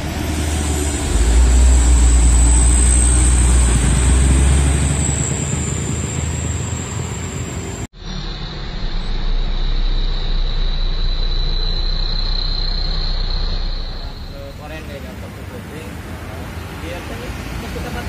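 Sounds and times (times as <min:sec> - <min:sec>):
diesel truck passing: 0:00.0 - 0:18.0.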